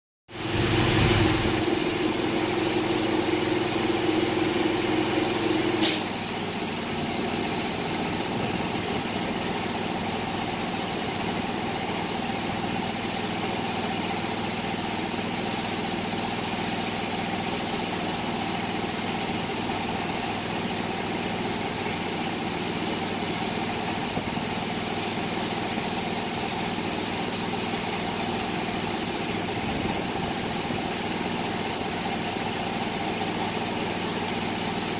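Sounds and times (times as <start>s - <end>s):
air compressor running: 0.3s - 34.9s
spray gun hissing: 0.4s - 34.9s.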